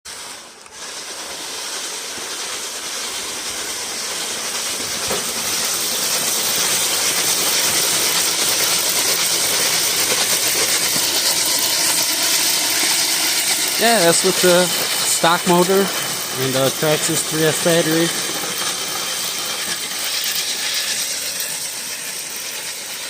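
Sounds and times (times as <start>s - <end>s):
rc truck motor and tyres hissing: 0.1s - 23.0s.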